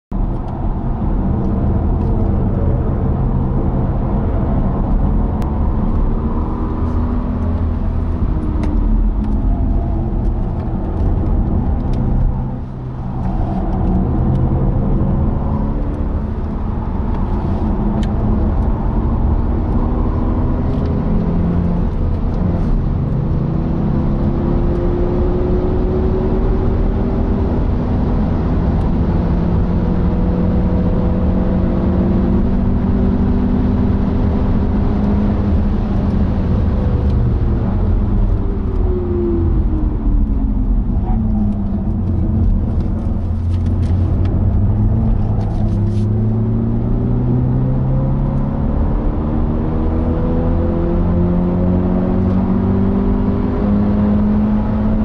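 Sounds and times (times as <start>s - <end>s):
car engine accelerating hard: 0.2s - 55.0s.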